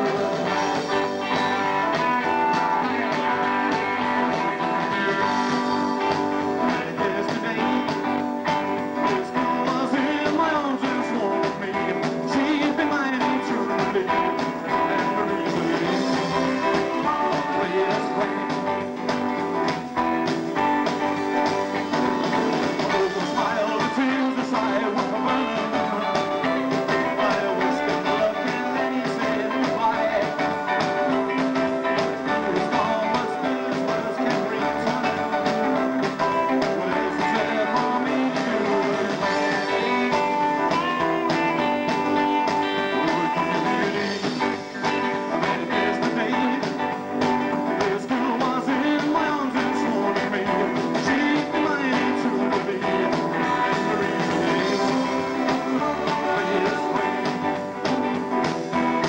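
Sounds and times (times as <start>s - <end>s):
live rockabilly band playing: 0.0s - 59.0s.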